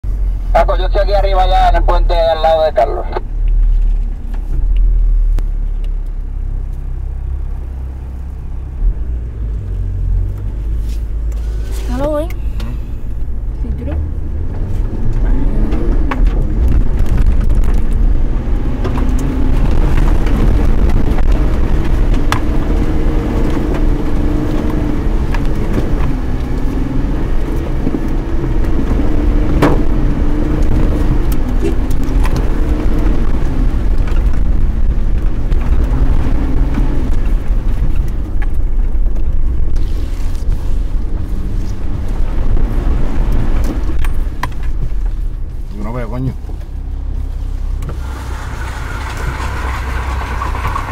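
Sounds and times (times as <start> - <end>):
car engine driving: 0.0 - 50.9
heavy low rumble: 0.0 - 50.9.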